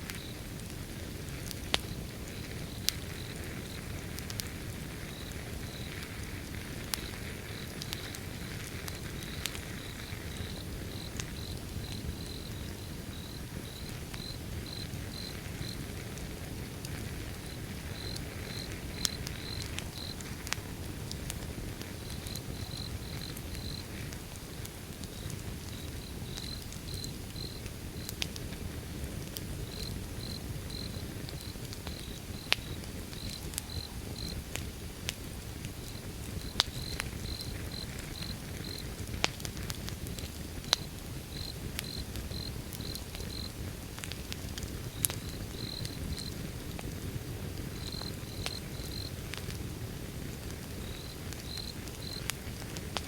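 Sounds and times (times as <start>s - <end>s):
fire crackling pops: 0.0s - 53.0s
wood fire rumbling: 0.0s - 53.0s.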